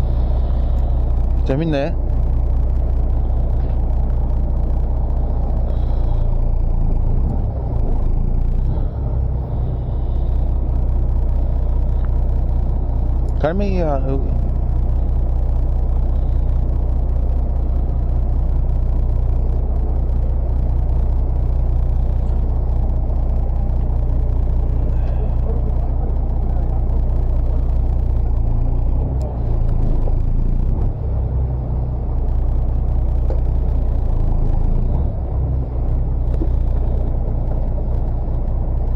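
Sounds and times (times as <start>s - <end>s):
boat engine droning: 0.0s - 38.9s.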